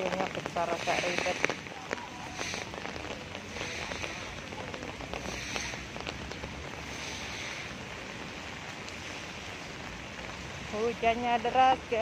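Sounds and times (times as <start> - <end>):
heavy rain on paving: 0.0 - 12.0
raindrops ticking on umbrella: 0.0 - 12.0.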